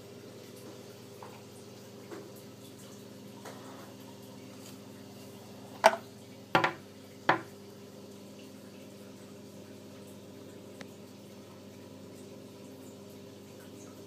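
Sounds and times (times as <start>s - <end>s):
aquarium pump humming: 0.0s - 14.0s
water trickling: 0.0s - 14.0s.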